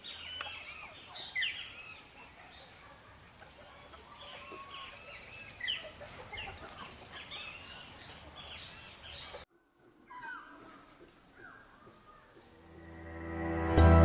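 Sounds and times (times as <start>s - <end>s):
birds chirping: 0.0s - 12.7s.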